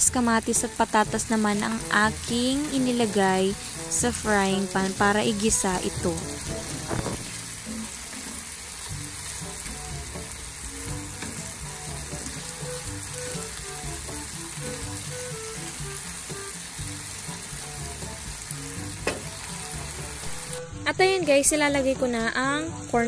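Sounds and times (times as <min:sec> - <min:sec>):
vegetables sizzling in oil: 0:00.0 - 0:23.0
spatula turning food in pan: 0:00.3 - 0:20.6.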